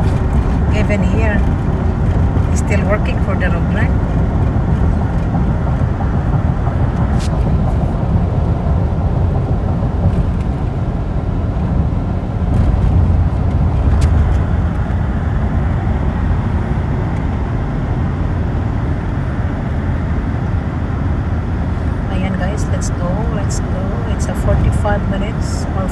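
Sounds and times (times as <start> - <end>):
car road noise from inside: 0.0 - 25.9.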